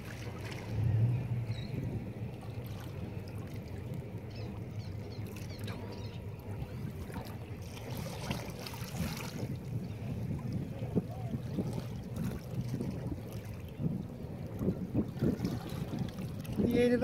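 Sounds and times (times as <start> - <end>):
water lapping against rocks: 0.0 - 1.2, 2.3 - 17.0
steady low rumble: 0.0 - 17.0.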